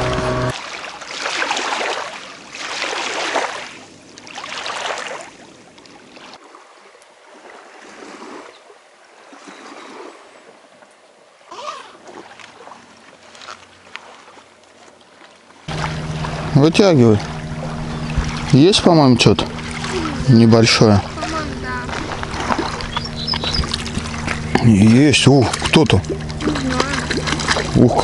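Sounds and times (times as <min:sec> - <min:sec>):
water washing against bank: 0:00.0 - 0:10.6, 0:11.4 - 0:28.0.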